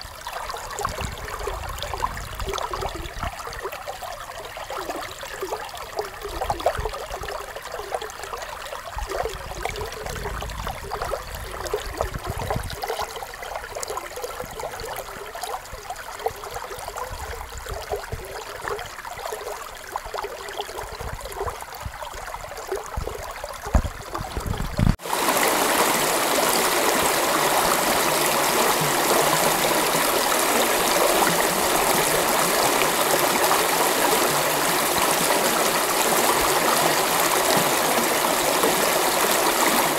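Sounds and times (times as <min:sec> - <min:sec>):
creek water over rocks: 0:00.0 - 0:39.9
rushing water: 0:00.0 - 0:39.9.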